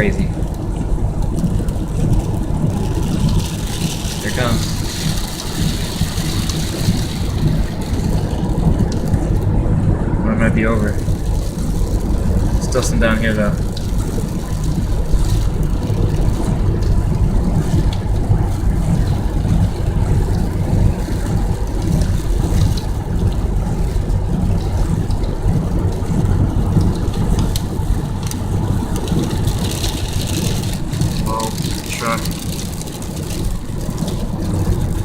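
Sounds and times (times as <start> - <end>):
car engine rumble inside cabin: 0.0 - 35.0
tyres on wet road: 0.0 - 35.0.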